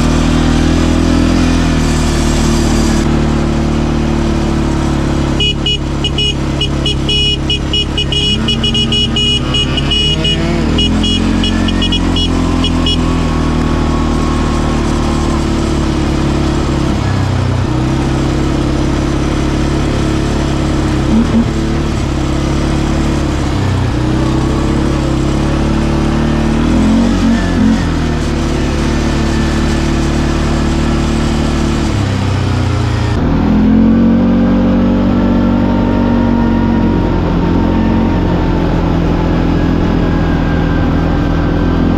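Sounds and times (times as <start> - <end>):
quad bike engine revving: 0.0 - 41.9.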